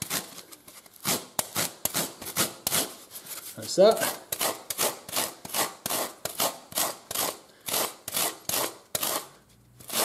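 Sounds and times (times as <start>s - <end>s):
rasp scraping foam: 0.0s - 10.0s.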